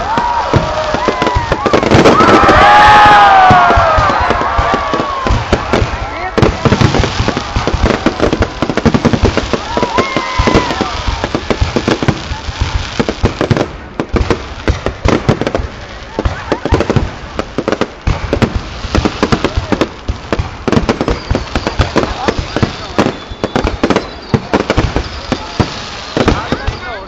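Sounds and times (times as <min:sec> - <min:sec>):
voices of onlookers: 0:00.0 - 0:14.2, 0:15.0 - 0:27.0
fireworks bangs and crackles: 0:00.0 - 0:27.0.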